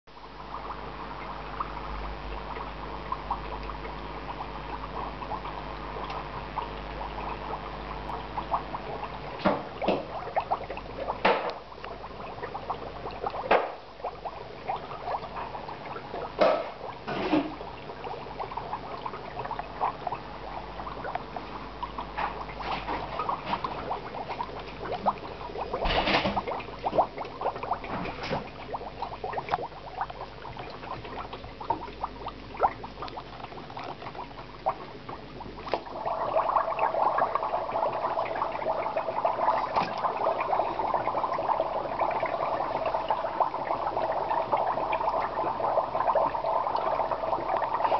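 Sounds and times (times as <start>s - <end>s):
dry ice bubbling in water: 0.1s - 47.9s
water splashes: 0.5s - 47.9s.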